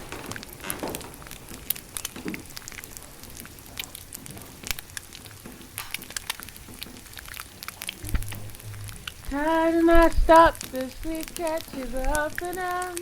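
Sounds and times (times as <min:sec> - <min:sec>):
dense irregular crackling: 0:00.0 - 0:13.0.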